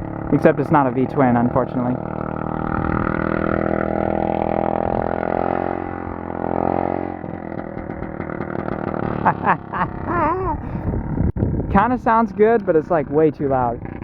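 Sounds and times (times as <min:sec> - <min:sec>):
loud engine exhaust under throttle: 0:00.0 - 0:14.0.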